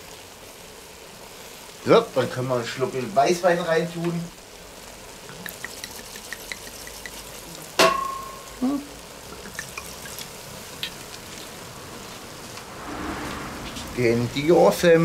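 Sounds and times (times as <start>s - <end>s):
mushrooms sizzling in pot: 0.0s - 15.0s.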